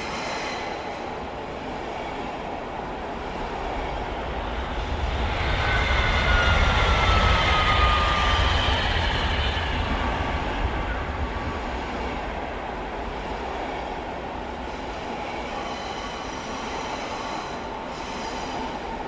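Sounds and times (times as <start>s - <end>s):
high-speed train running: 0.0s - 19.0s.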